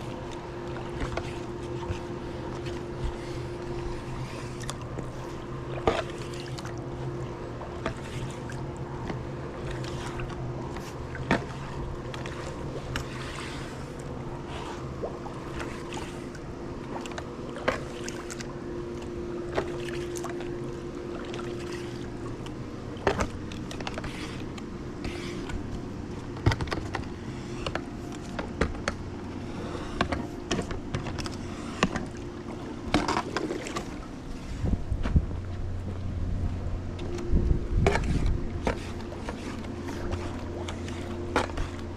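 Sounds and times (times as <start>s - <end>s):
pool brush scrubbing underwater: 0.0s - 35.0s, 36.8s - 41.9s
pool pump motor hum: 0.0s - 41.9s
water swishing: 0.0s - 41.9s.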